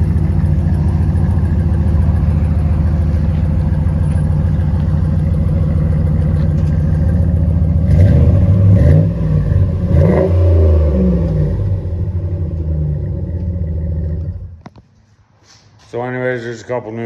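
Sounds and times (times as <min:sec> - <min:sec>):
car engine revving: 0:00.0 - 0:14.6
engine ticking: 0:00.0 - 0:14.6.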